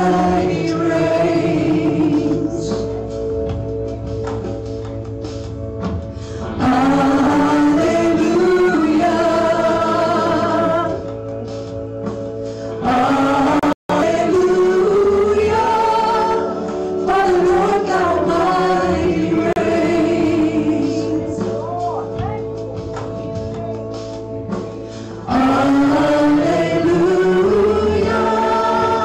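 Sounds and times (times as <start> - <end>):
vocalists singing gospel: 0.0 - 3.8, 6.1 - 29.0
sustained instrumental chords: 0.0 - 29.0.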